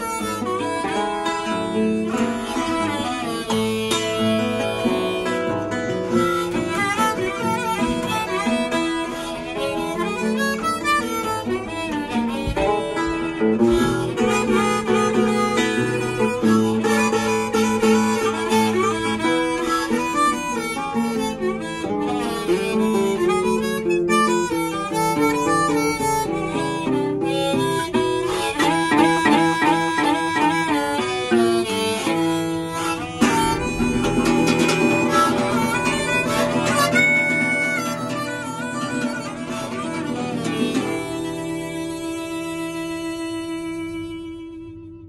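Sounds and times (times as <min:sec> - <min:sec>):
harmonica melody: 0:00.0 - 0:45.0
strummed acoustic guitar: 0:00.0 - 0:45.0.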